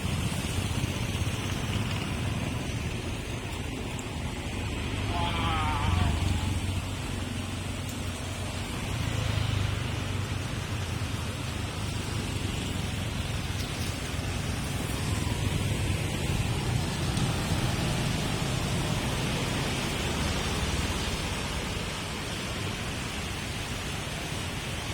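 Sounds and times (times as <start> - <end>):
engine rumble: 0.0 - 24.9
tyres hissing on wet road: 0.0 - 24.9.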